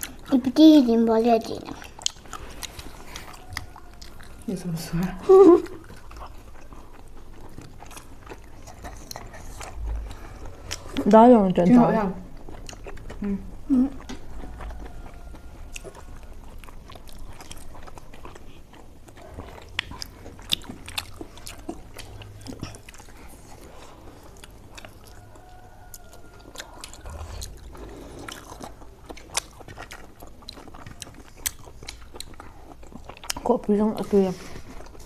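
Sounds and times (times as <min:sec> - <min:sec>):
person chewing food: 0:00.0 - 0:00.4, 0:01.4 - 0:11.3, 0:12.2 - 0:35.0.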